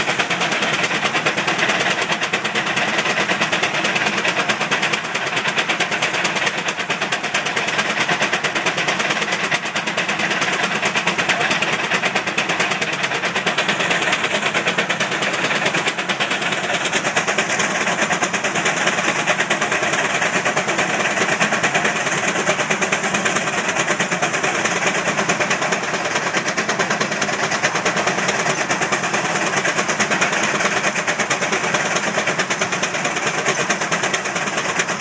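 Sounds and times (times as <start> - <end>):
steam engine exhaust chuffing: 0.0 - 35.0.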